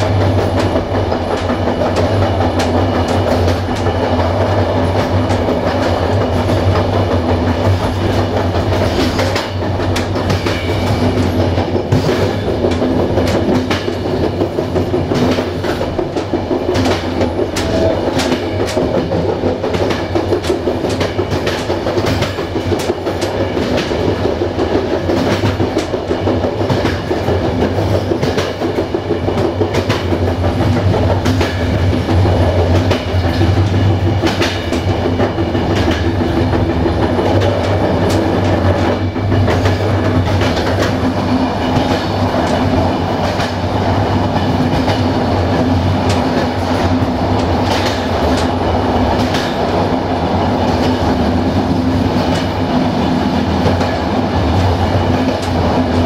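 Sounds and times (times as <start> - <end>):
train rolling rumble: 0.0 - 56.0
train wheels clicking over rail joints: 0.0 - 56.0.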